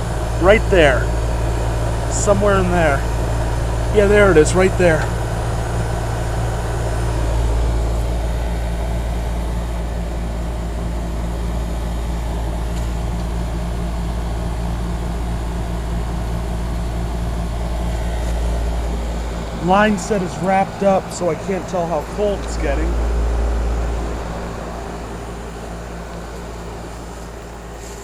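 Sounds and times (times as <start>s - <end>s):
compressor hum: 0.0s - 28.0s
condenser fan rushing: 0.0s - 28.0s.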